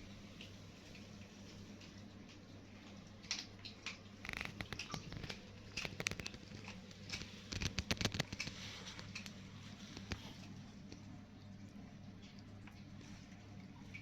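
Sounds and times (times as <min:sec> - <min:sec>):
kittens chewing and lapping: 0:00.1 - 0:14.0.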